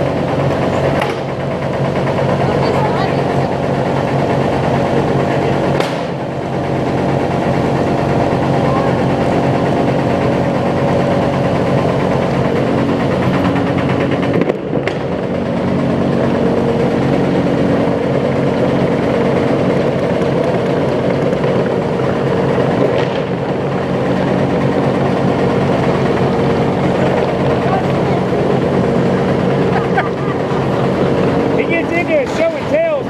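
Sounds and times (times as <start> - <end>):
sawmill machinery hum and rumble: 0.0 - 33.0.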